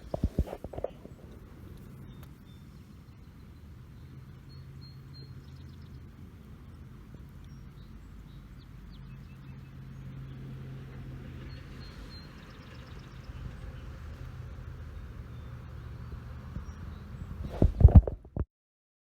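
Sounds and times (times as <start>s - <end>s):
distant vehicle engine hum: 0.0s - 18.3s.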